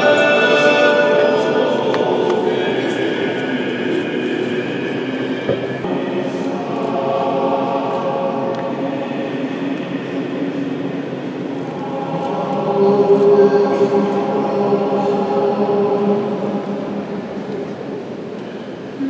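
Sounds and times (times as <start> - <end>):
church choir chanting: 0.0 - 18.3.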